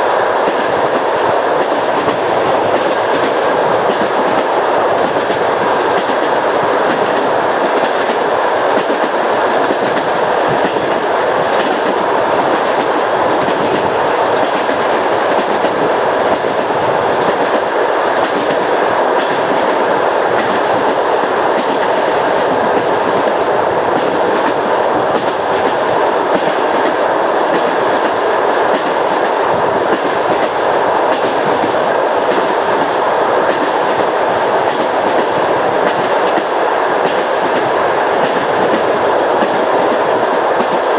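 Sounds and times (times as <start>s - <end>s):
train wheels clickety-clack on rails: 0.0s - 40.9s.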